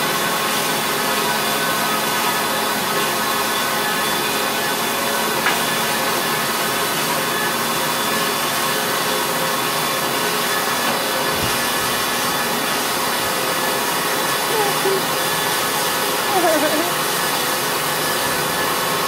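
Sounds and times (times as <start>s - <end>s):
machine hiss and hum: 0.0s - 19.0s.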